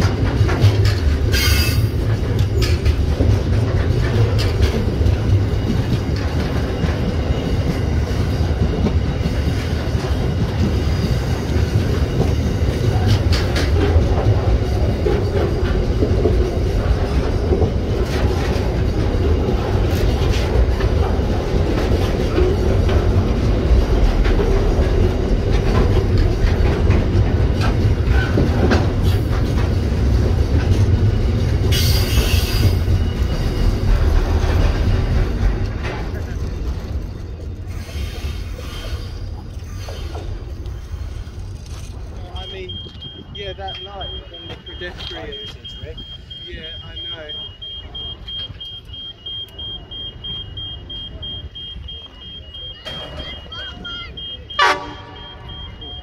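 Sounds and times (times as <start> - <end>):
train wheels rumbling on rail: 0.0 - 56.0
wheels clicking over rail joints: 0.0 - 56.0.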